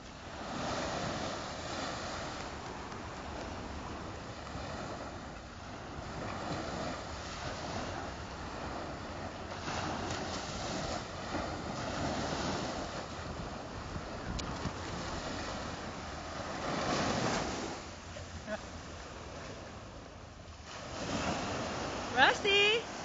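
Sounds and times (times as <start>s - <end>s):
waves washing up a beach: 0.0s - 23.0s.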